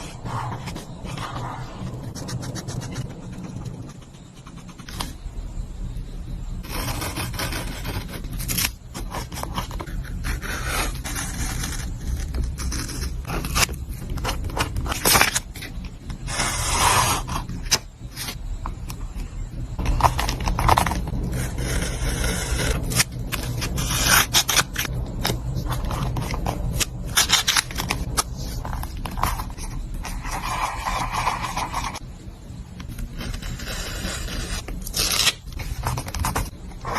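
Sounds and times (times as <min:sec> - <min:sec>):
paper scraping and rubbing: 0:00.0 - 0:05.1, 0:06.6 - 0:18.4, 0:19.8 - 0:32.0, 0:33.0 - 0:36.9.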